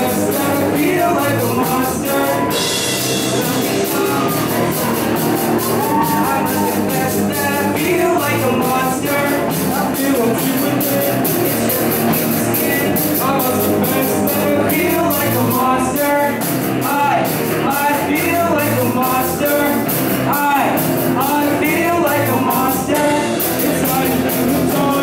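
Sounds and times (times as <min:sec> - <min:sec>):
person singing into microphone: 0:00.0 - 0:05.0, 0:05.6 - 0:25.0
drums and cymbals beat: 0:00.0 - 0:25.0.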